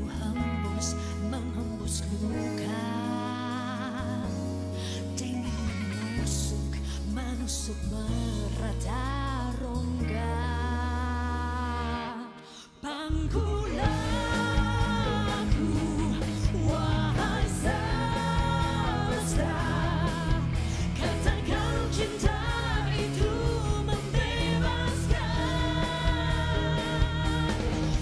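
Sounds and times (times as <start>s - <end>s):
pop band backing: 0.0s - 28.0s
woman singing with vibrato: 0.0s - 28.0s.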